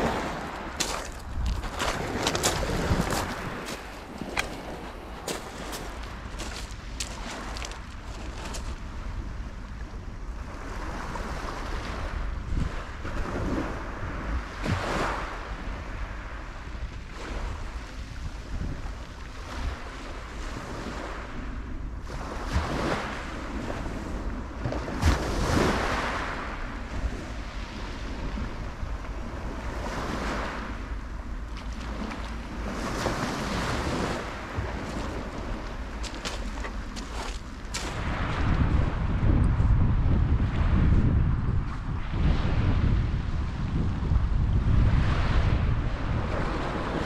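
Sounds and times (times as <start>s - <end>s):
waves washing up a shingle beach: 0.0s - 39.2s, 42.0s - 47.0s
wind rumbling on microphone: 0.0s - 47.0s.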